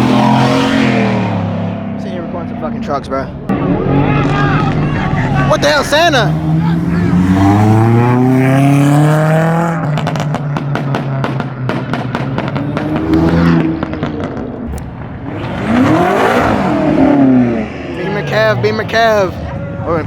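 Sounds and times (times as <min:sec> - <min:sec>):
engine passing close: 0:00.0 - 0:20.0
vehicle accelerating hard: 0:00.0 - 0:20.0.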